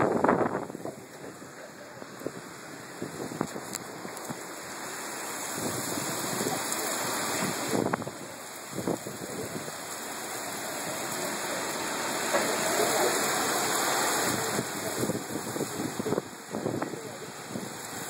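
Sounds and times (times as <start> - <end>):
heavy rain pouring on pavement: 0.0 - 18.0.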